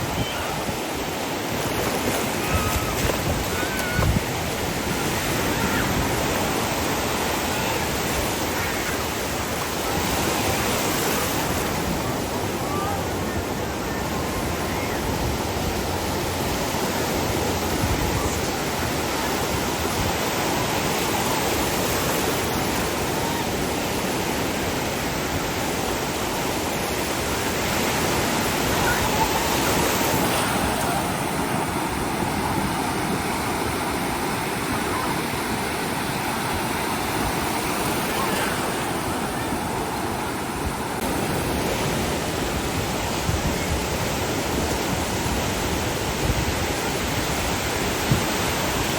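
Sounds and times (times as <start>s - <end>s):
ocean surf washing onto beach: 0.0s - 48.9s.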